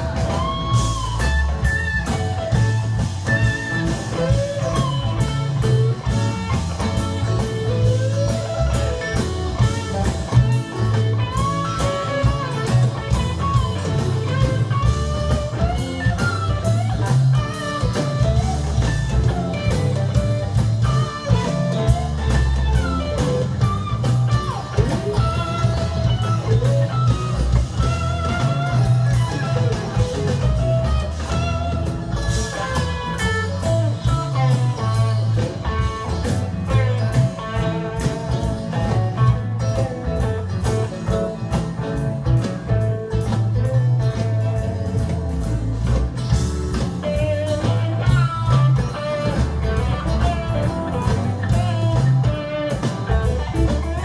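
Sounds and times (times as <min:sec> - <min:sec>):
bass: 0:00.0 - 0:54.0
drums: 0:00.0 - 0:54.0
electric guitar solo: 0:00.0 - 0:54.0.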